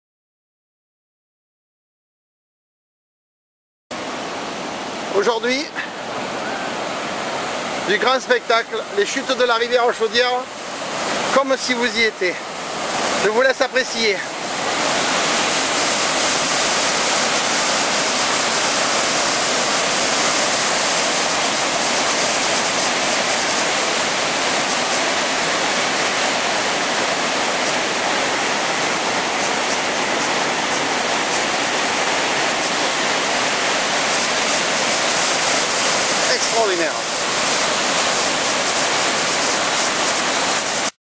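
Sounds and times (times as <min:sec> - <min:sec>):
waterfall rushing: 0:03.9 - 0:41.0.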